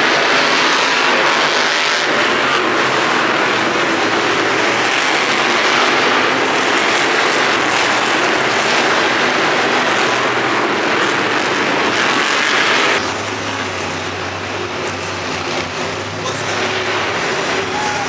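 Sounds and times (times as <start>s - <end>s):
monster truck engines roaring: 0.0s - 18.0s.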